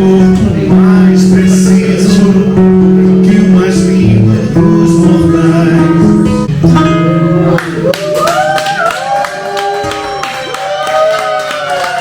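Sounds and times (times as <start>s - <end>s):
live guitar music: 0.0s - 12.0s.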